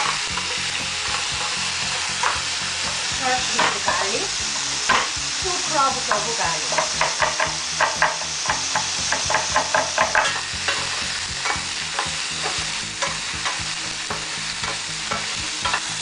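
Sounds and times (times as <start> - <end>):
utensil scraping a pan: 0.0 - 4.2, 6.1 - 16.0
potatoes sizzling in oil: 0.0 - 16.0.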